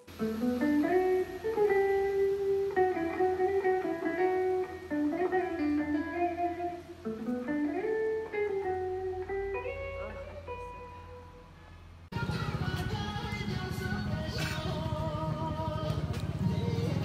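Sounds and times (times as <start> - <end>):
slow instrumental melody: 0.0 - 17.0.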